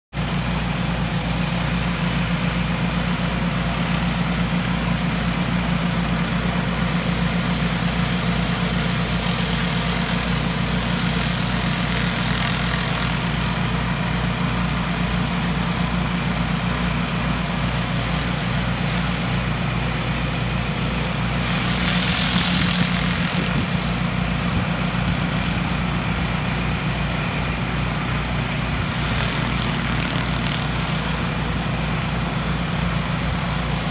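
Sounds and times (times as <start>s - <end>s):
pressure washer engine running: 0.1s - 33.9s
high-pressure water spraying hiss: 0.2s - 26.6s, 28.8s - 33.9s.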